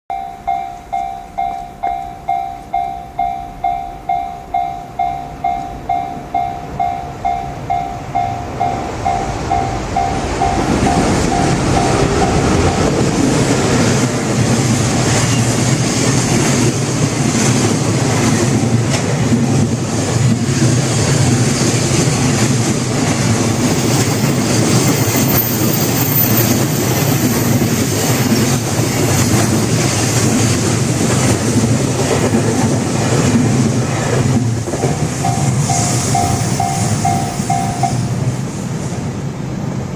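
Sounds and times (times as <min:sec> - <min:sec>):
level-crossing warning bell: 0:00.1 - 0:38.8
train wheels rumbling on rails: 0:00.1 - 0:39.9.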